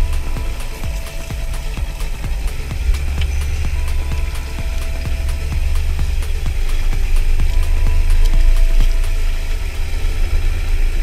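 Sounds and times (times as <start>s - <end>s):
background music: 0.0s - 11.0s
outboard motor idling: 0.0s - 11.0s.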